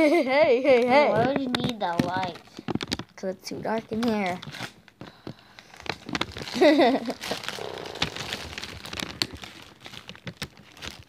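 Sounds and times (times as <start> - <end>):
plastic wrapping crinkling: 0.6 - 11.0.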